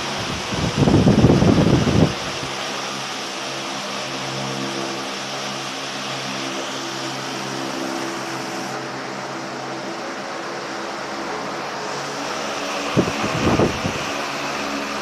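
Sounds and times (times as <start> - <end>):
wall fan running: 0.0 - 15.0.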